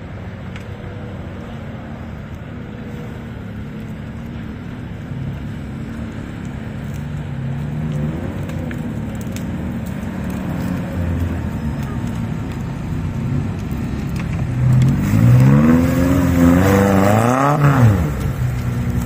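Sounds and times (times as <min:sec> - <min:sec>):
vehicle engine running: 0:01.4 - 0:19.0.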